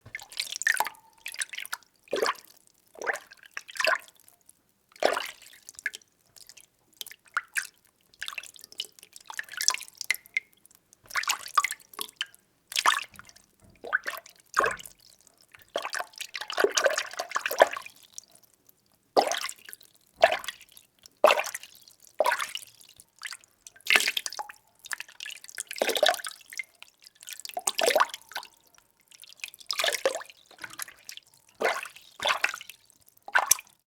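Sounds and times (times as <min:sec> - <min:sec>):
water sloshing while stirred: 0:00.0 - 0:04.2, 0:04.9 - 0:18.4, 0:19.2 - 0:33.8.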